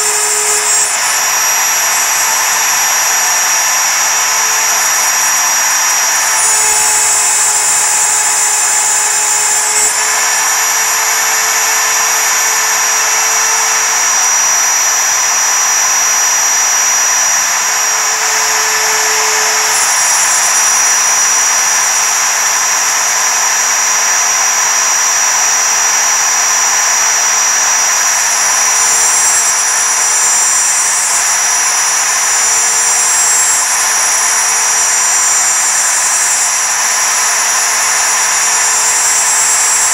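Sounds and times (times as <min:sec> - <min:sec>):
end mill cutting aluminum hiss: 0:00.0 - 0:39.9
router spindle high whine: 0:00.0 - 0:39.9.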